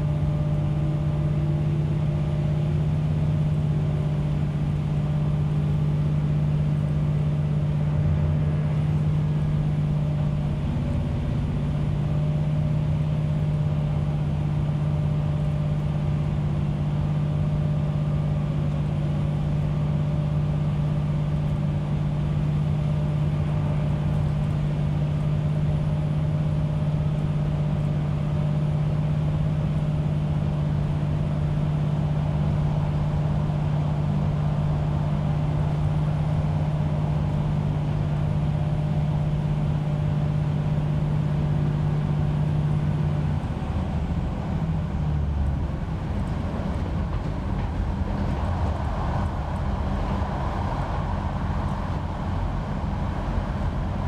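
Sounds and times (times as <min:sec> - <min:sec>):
diesel railcar engine drone: 0:00.0 - 0:54.0.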